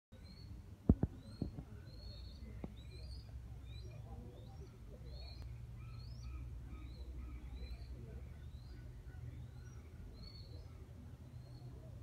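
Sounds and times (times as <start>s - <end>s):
lower bird calls: 0.2s - 12.0s.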